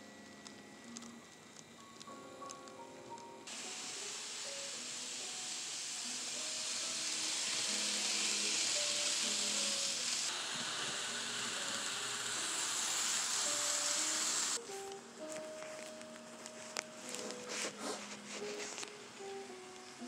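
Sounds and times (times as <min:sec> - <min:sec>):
loud steady hiss: 0:00.0 - 0:20.0
soft slow music: 0:00.0 - 0:20.0.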